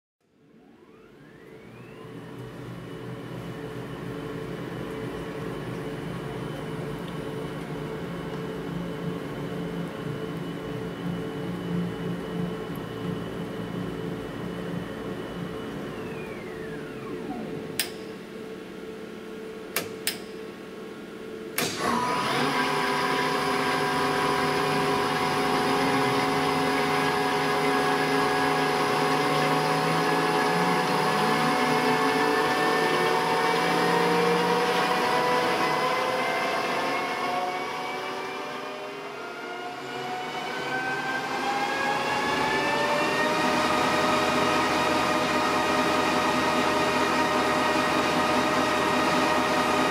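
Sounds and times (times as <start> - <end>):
lathe spindle whine: 0.5 - 19.4, 21.6 - 49.9.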